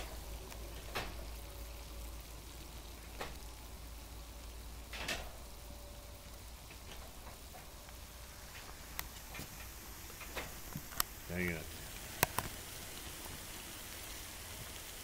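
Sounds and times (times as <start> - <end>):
water boiling: 0.0 - 15.0.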